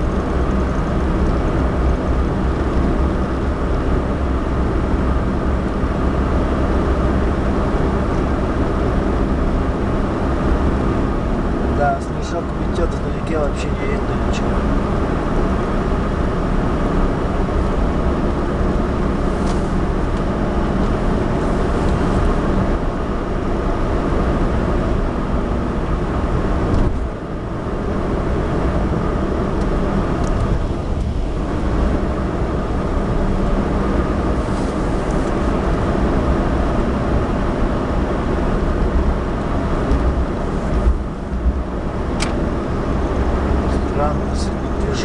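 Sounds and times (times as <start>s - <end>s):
car engine and tyre noise: 0.0s - 45.0s.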